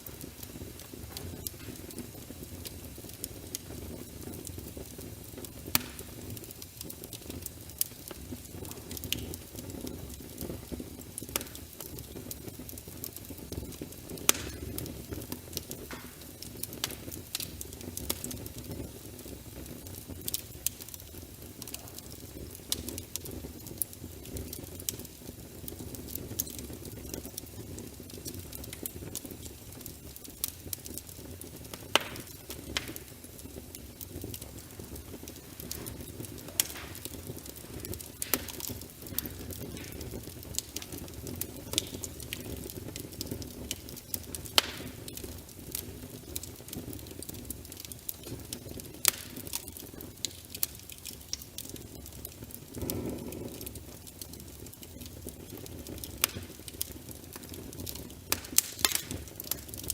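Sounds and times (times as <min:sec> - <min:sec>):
flames rumbling: 0:00.0 - 0:59.9
wood fire crackles and pops: 0:00.0 - 0:59.9.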